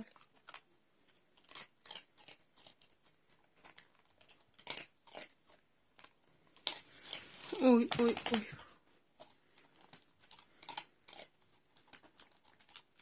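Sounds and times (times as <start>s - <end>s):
dog crunching dry kibble: 0.0s - 13.0s.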